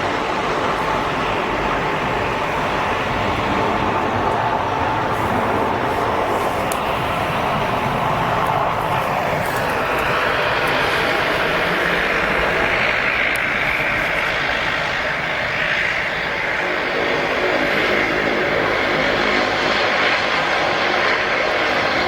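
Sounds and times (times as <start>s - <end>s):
high engine whine rising: 0.0s - 22.0s
jet engines running: 0.0s - 22.0s.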